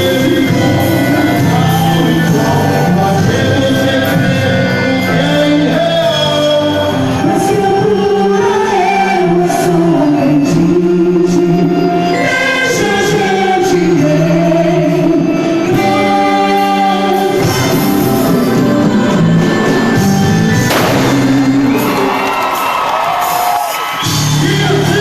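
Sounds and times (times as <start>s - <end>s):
choir singing held notes: 0.0s - 25.0s.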